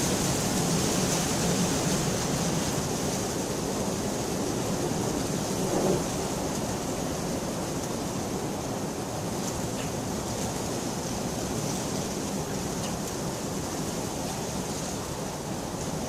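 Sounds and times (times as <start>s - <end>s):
heavy rainfall: 0.0s - 16.0s.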